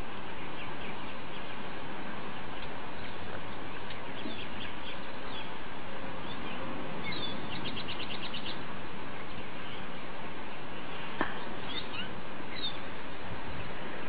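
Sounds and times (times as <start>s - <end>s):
small birds chirping: 0.0s - 13.8s
steady hiss: 0.0s - 14.0s.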